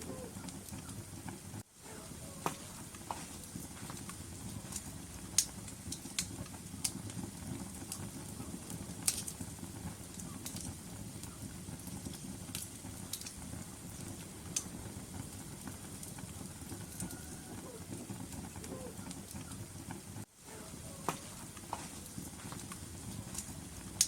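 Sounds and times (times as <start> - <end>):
fire crackles and pops: 0.0 - 24.0
logs burning in fireplace: 0.0 - 24.0.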